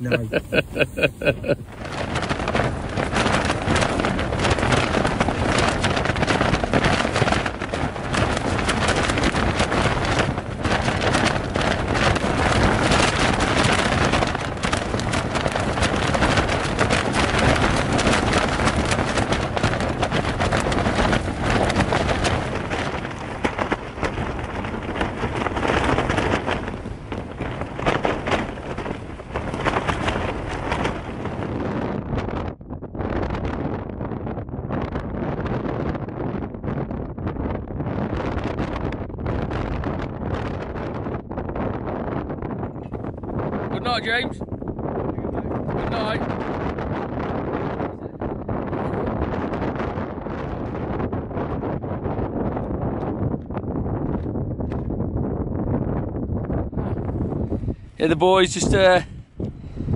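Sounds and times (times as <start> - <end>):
tent fabric flapping: 0.0 - 59.9
wind rumble on microphone: 0.0 - 59.9.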